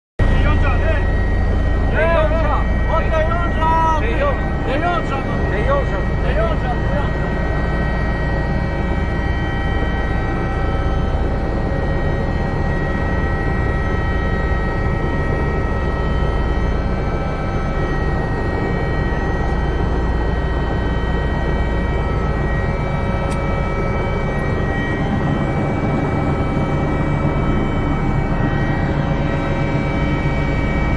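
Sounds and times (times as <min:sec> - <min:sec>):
helicopter running: 0:00.2 - 0:30.9.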